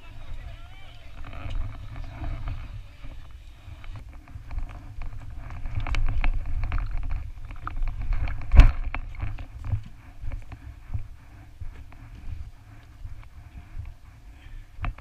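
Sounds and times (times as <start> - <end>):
running footsteps on gravel: 0.0 - 15.0
wind buffeting microphone: 0.0 - 15.0.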